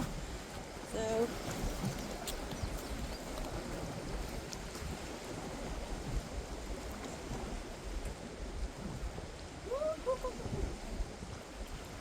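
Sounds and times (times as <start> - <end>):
water washing against rocky shore: 0.0 - 12.0
wind blowing across microphone: 0.0 - 12.0.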